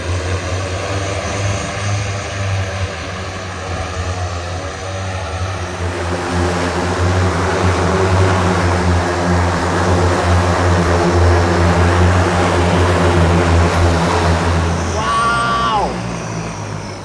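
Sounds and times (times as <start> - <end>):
multirotor propellers humming: 0.0 - 17.0.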